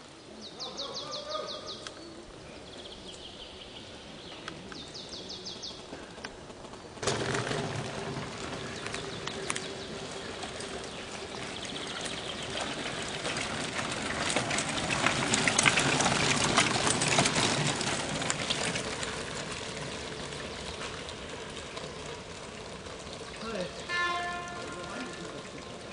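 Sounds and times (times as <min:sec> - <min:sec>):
bikes rattling over cobbles: 0:00.0 - 0:25.9.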